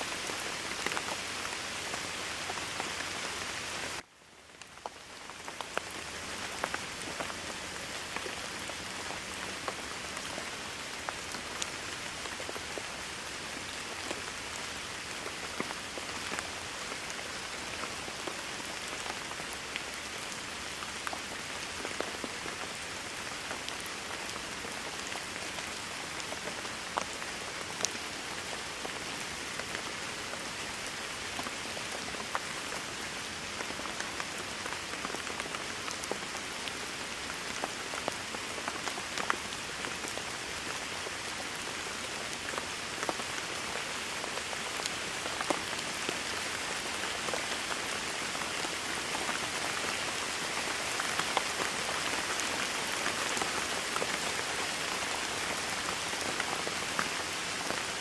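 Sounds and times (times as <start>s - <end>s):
rain on a hard surface: 0.0s - 58.0s.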